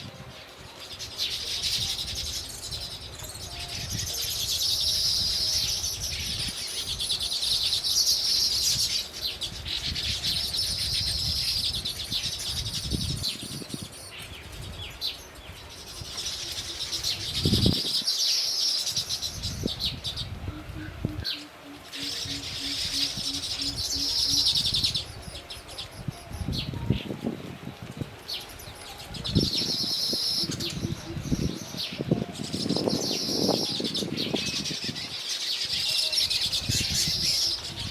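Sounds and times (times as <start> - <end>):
small birds chirping: 0.0 - 27.2, 28.3 - 37.9.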